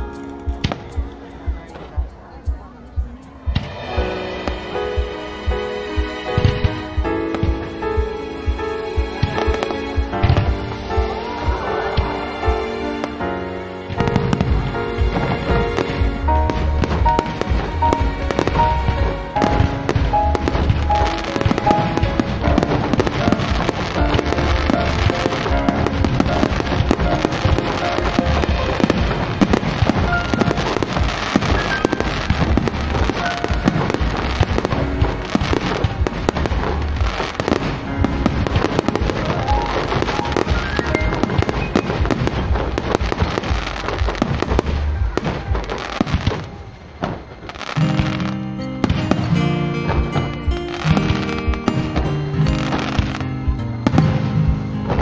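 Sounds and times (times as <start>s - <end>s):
fireworks bangs and crackles: 0.0s - 55.0s
music playing: 0.0s - 55.0s.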